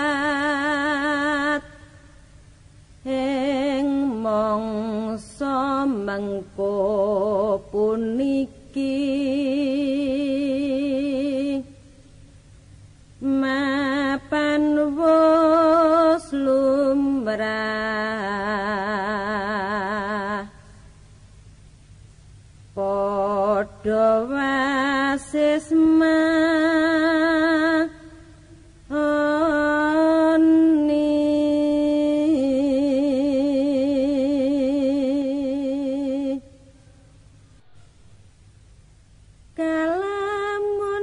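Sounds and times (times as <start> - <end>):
person singing unaccompanied: 0.0 - 2.0, 3.0 - 11.8, 13.2 - 20.7, 22.7 - 36.9, 39.5 - 41.0.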